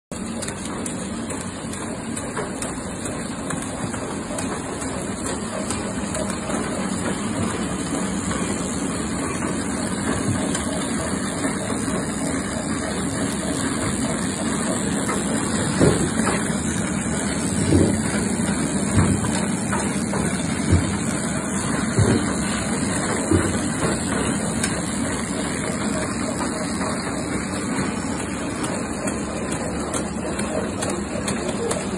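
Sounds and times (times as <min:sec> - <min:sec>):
machine mechanical hum: 0:00.1 - 0:31.9.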